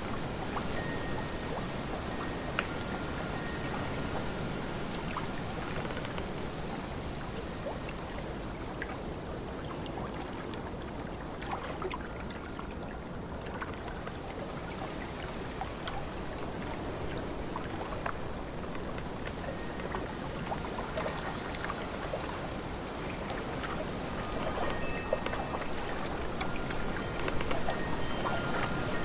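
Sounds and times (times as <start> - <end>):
small drip-like ticks: 0.0 - 29.0
water lapping and splashing: 0.0 - 29.0.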